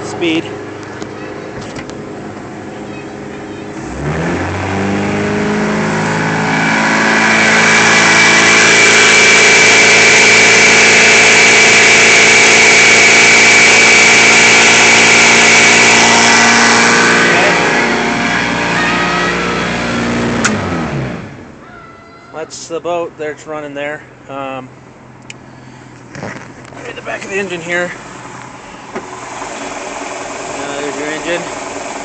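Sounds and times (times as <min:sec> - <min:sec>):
boat engine revving: 0:00.0 - 0:21.7, 0:25.6 - 0:32.0.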